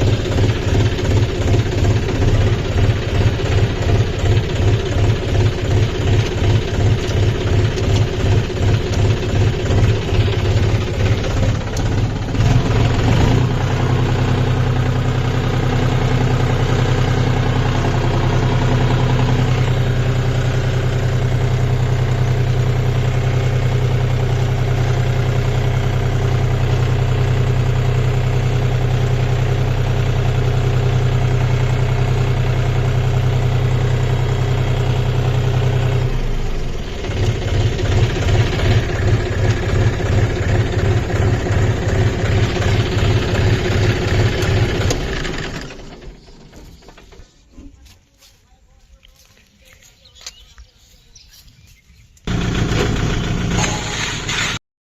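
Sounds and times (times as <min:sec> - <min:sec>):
tractor diesel engine running: 0:00.0 - 0:54.6.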